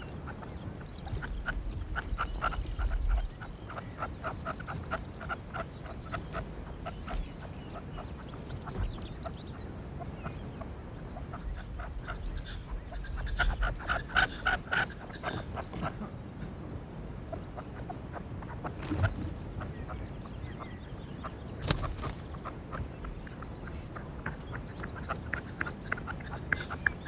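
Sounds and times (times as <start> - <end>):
partridges calling: 0.0 - 16.1, 17.3 - 27.0.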